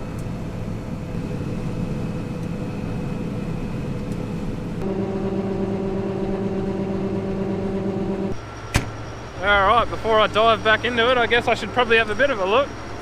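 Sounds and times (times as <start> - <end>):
steady humming tone: 0.0 - 10.9
combine harvester running: 0.0 - 13.0.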